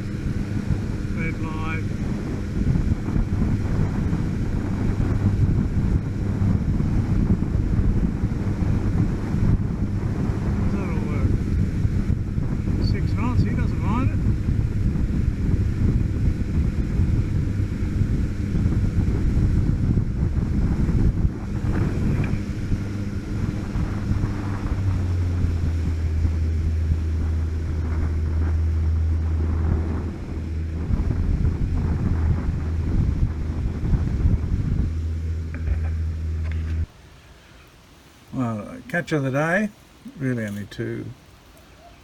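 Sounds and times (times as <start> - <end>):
wind buffeting microphone: 0.0 - 37.2
outboard motor humming: 0.0 - 38.0
water rushing past hull: 0.0 - 41.8.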